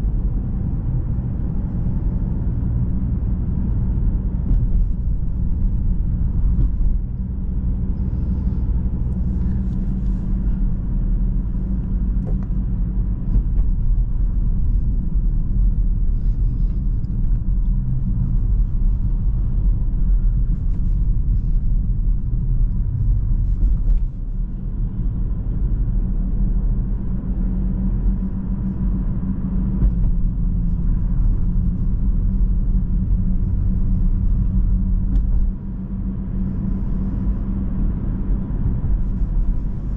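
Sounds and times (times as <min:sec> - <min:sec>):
car engine droning: 0:00.0 - 0:39.9
tyre and road noise: 0:00.0 - 0:39.9.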